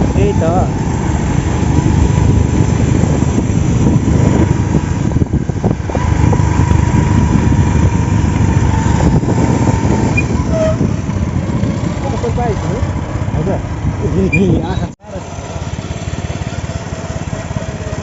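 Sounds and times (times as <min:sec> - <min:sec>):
vehicle rumbling: 0:00.0 - 0:18.0.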